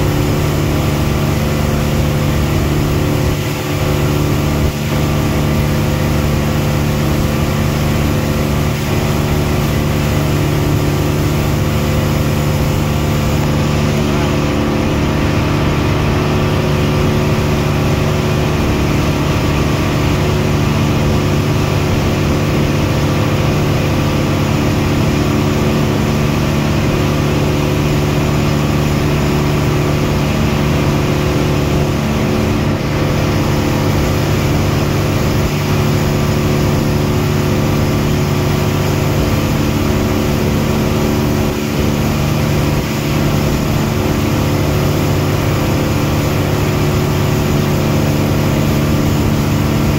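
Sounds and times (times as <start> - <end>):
boat engine running steadily: 0.0 - 49.9.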